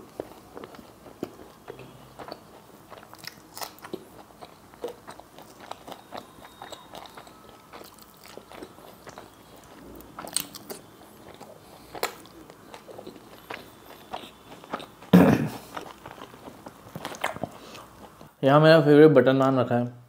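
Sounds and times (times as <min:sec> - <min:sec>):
person chewing chilli crunchily: 0:00.0 - 0:18.4.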